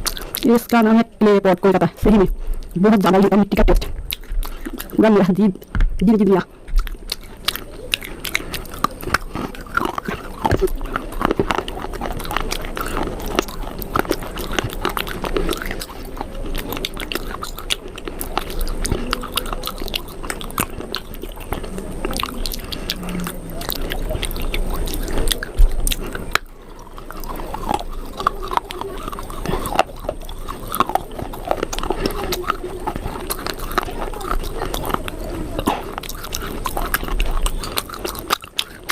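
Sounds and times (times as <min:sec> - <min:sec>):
chewing crunchy clay pot: 0:00.0 - 0:38.9.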